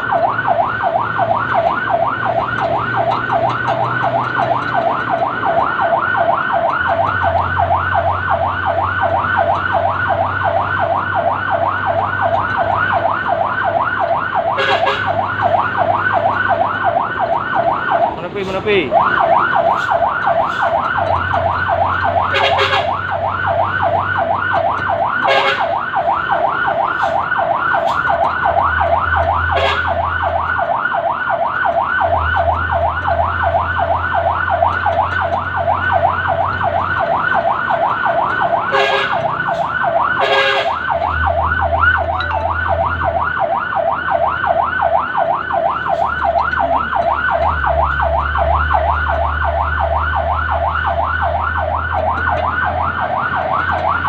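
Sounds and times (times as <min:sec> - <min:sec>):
fire engine siren yelp: 0:00.0 - 0:54.0.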